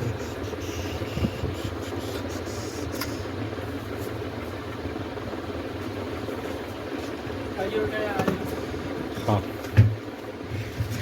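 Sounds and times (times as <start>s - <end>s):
blower motor hum with rushing air: 0.0s - 11.0s.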